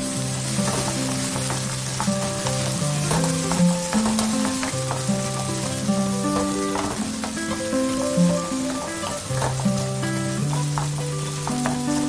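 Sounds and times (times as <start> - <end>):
background music: 0.0 - 12.0
shrimps sizzling in hot oil: 0.0 - 12.0
wooden spatula stirring in wok: 0.0 - 12.0.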